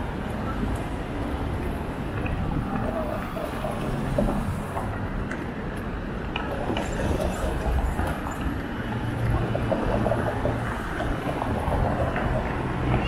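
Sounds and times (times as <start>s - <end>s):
city bustle: 0.0s - 13.0s.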